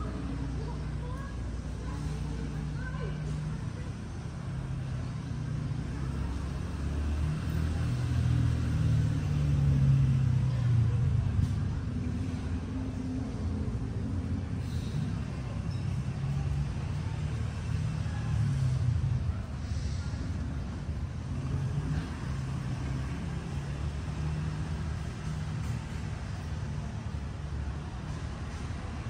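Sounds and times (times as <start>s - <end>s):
road traffic rumble: 0.0s - 29.0s
vehicle engine: 0.0s - 29.0s.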